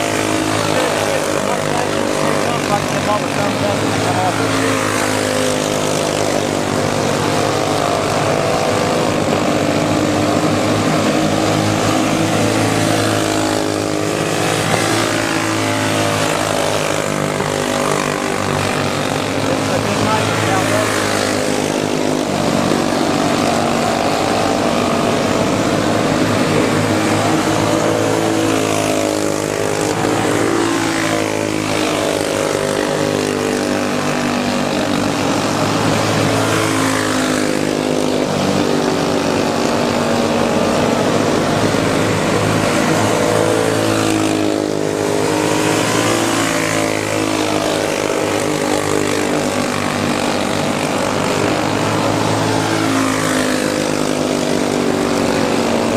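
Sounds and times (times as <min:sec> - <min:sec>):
go-kart engines racing: 0:00.0 - 0:55.9.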